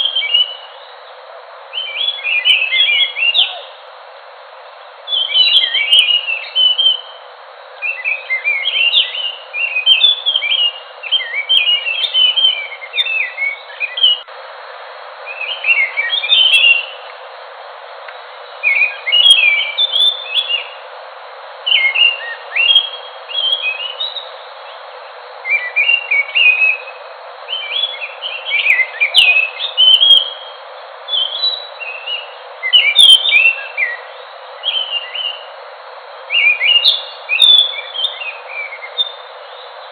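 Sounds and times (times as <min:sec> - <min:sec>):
thrush singing whistled notes: 0:00.0 - 0:14.4, 0:15.2 - 0:17.2, 0:18.1 - 0:39.9.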